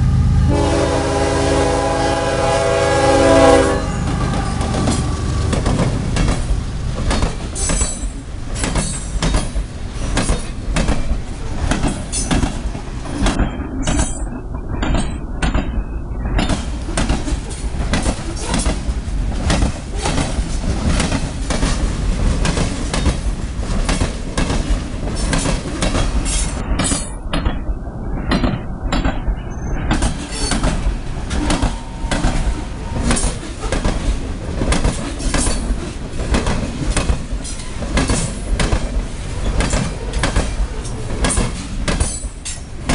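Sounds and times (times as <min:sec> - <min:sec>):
freight train rumble: 0:00.0 - 0:42.9
train wheels clanking over joints: 0:04.0 - 0:27.7, 0:29.9 - 0:42.9.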